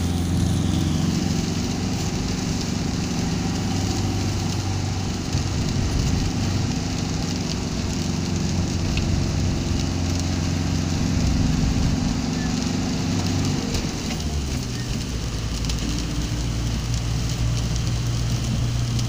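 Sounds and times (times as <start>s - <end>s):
car engine hum: 0.0s - 19.0s
rain pattering on car: 0.0s - 19.0s
tyre noise on wet road: 0.0s - 19.0s.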